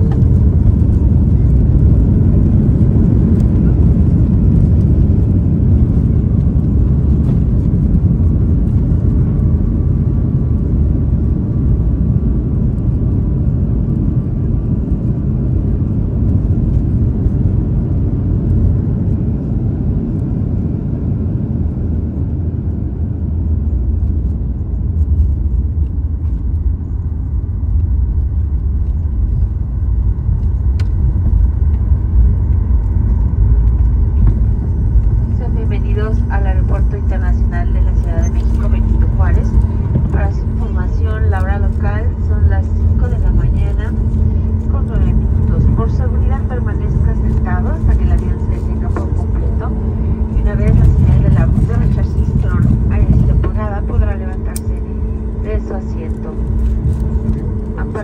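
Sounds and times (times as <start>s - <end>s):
jet engines rumbling: 0.0s - 58.0s
wheels rumbling on runway: 0.0s - 58.0s.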